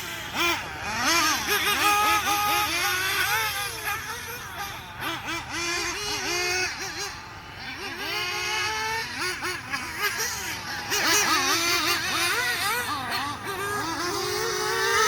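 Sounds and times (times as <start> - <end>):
model engine high-pitched whine: 0.0 - 15.0.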